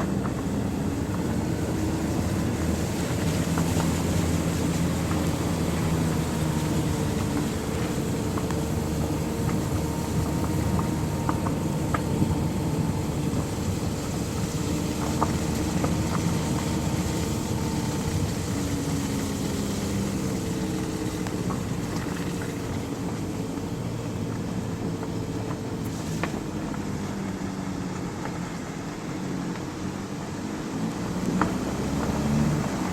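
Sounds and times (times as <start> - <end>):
engine drone: 0.0 - 32.9
hiss of wind or road noise: 0.0 - 32.9.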